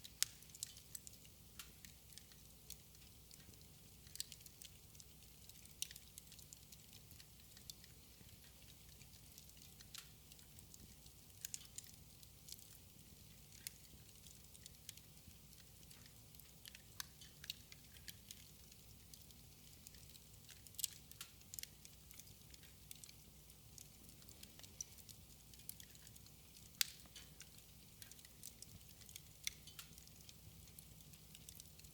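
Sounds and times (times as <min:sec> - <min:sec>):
low steady hum and hiss: 0:00.0 - 0:31.9
wood fire crackling and popping: 0:00.0 - 0:31.9.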